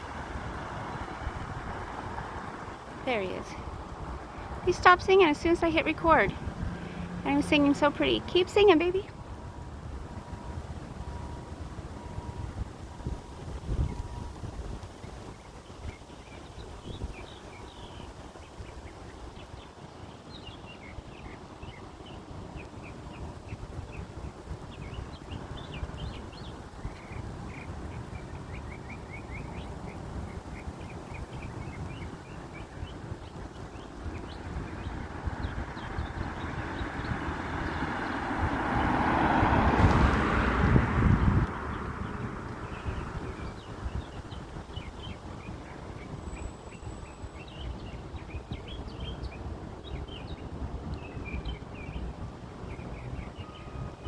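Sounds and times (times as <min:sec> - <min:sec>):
songbird chirping: 0:00.0 - 0:09.2, 0:12.8 - 0:54.0
city traffic rumble: 0:00.0 - 0:54.0.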